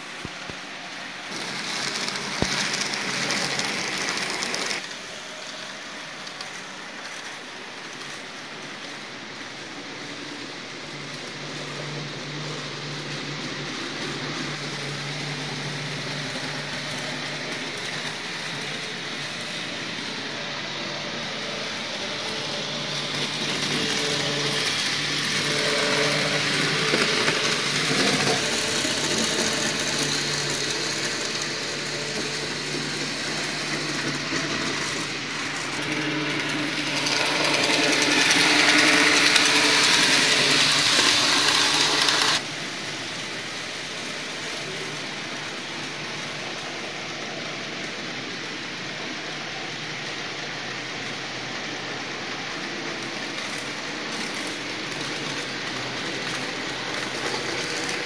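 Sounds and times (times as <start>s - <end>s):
model train motors whirring: 0.0s - 58.0s.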